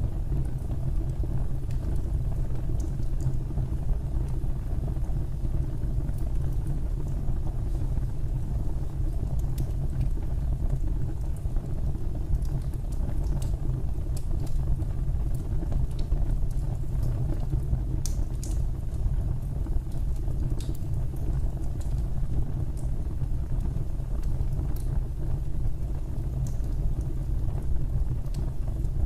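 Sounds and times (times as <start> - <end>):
fire crackles: 0.0 - 29.0
fire rumbling in fireplace: 0.0 - 29.0.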